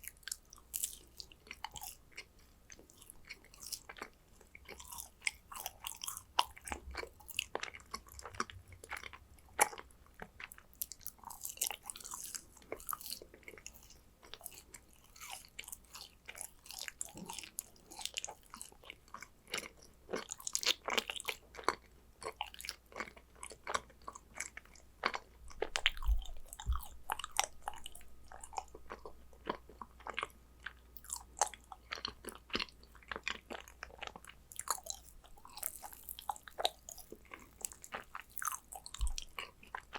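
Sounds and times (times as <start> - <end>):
chewing crunchy cookies: 0.0 - 39.9.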